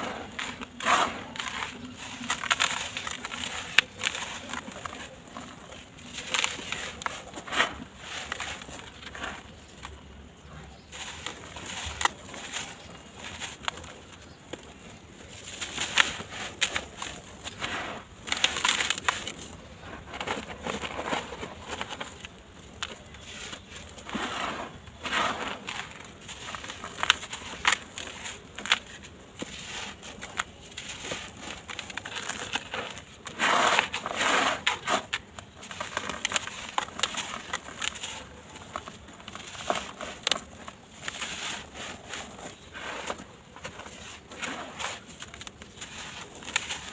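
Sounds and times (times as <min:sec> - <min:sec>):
sand-cement blocks crunching: 0:00.0 - 0:46.9.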